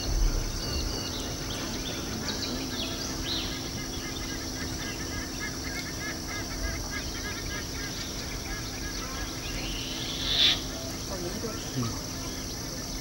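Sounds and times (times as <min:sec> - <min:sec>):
birds chirping and whistling: 0:00.0 - 0:12.5
steady low hum: 0:00.0 - 0:13.0.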